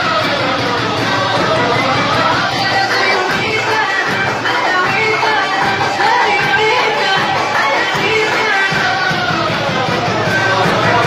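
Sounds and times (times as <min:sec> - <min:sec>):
crowd din: 0:00.0 - 0:11.0
loud party music: 0:00.0 - 0:11.0.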